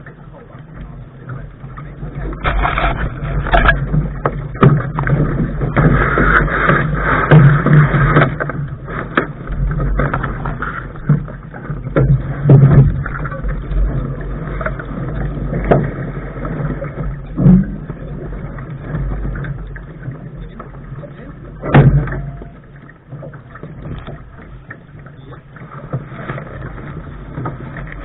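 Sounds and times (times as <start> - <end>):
water slapping against boat hull: 0.0 - 28.0
wind rumbling on microphone: 0.0 - 28.0.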